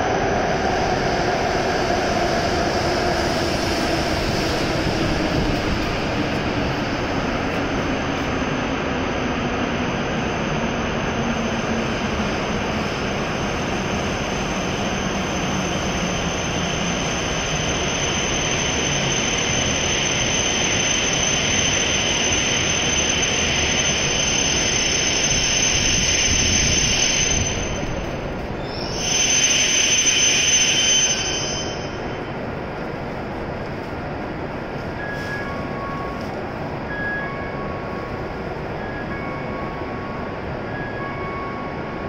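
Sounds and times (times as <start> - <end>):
train rushing noise: 0.0 - 42.0.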